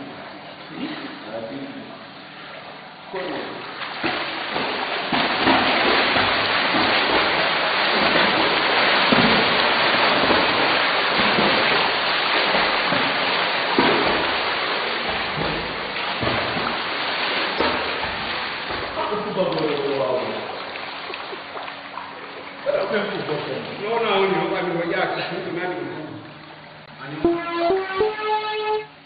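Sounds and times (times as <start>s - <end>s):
pool water splashing: 0.0s - 29.0s.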